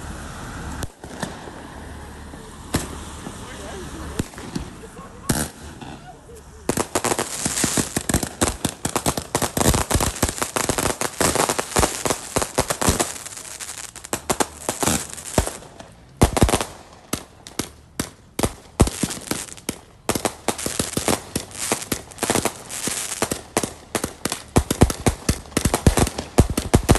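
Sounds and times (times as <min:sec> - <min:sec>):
fireworks cracks and pops: 0:00.7 - 0:02.0, 0:02.6 - 0:26.9
loud firework bangs: 0:00.8 - 0:01.9, 0:02.6 - 0:26.9.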